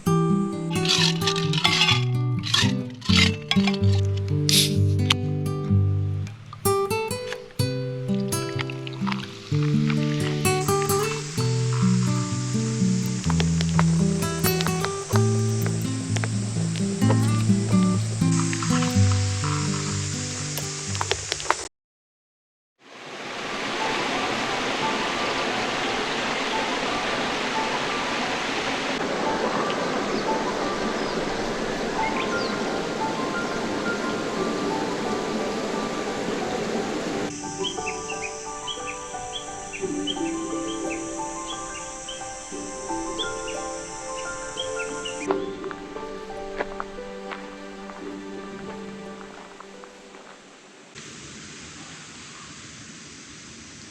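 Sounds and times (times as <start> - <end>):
mountain stream rushing: 0.0 - 3.9, 6.3 - 21.7, 22.8 - 53.9.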